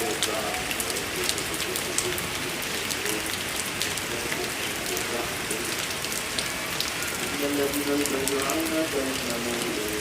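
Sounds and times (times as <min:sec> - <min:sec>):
raindrops ticking: 0:00.0 - 0:10.0
steady rain falling: 0:00.0 - 0:10.0.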